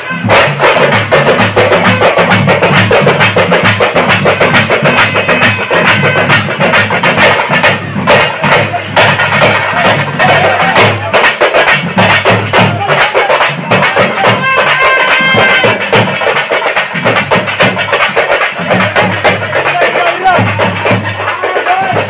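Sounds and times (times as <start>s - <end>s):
loud fast drumming: 0.0s - 22.0s.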